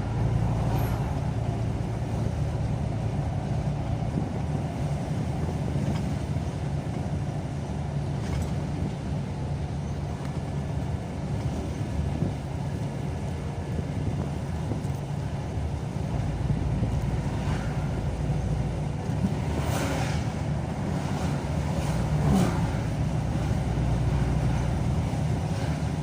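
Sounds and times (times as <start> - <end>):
car engine and tyre hum: 0.0 - 26.0.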